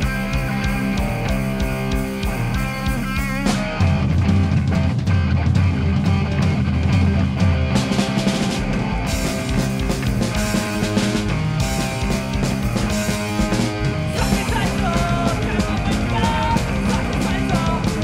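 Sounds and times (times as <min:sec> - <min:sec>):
distorted electric guitars: 0:00.0 - 0:18.0
drums: 0:00.0 - 0:18.0.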